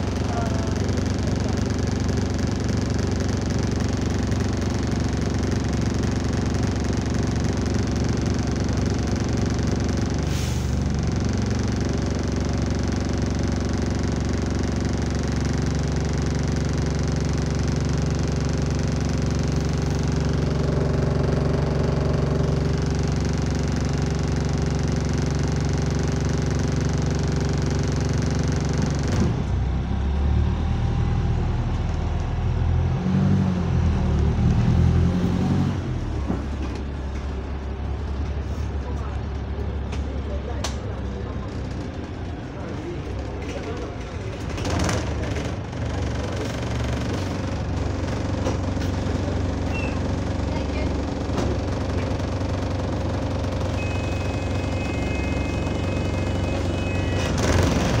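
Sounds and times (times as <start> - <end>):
bus engine idling with rattle: 0.0 - 58.0
bus engine revving: 0.0 - 58.0.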